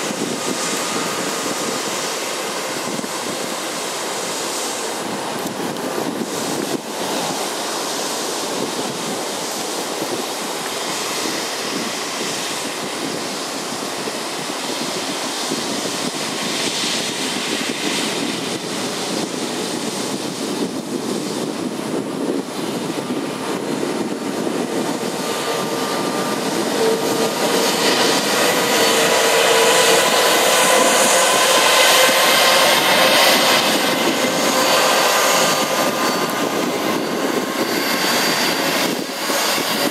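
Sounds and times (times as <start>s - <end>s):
jet engine whine: 0.0s - 39.9s
jet engines rushing hiss: 0.0s - 39.9s.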